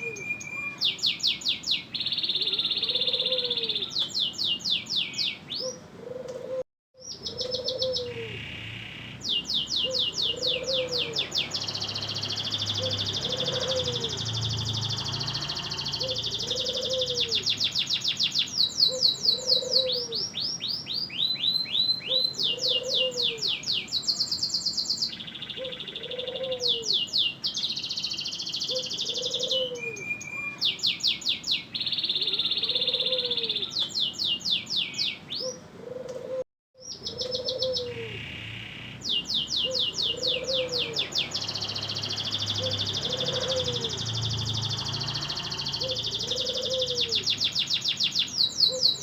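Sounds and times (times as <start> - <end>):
canary singing trills: 0.0 - 5.9, 7.0 - 35.7, 36.8 - 49.0.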